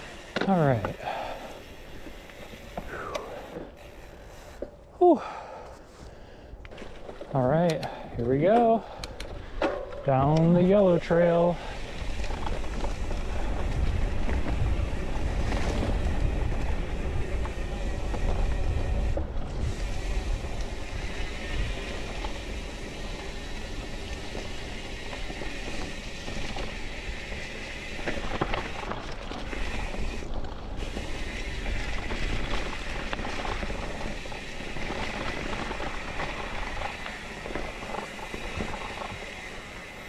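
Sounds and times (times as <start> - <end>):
bike rattles and clicks: 0.0 - 40.0
bike tyre noise on dirt: 0.0 - 40.0.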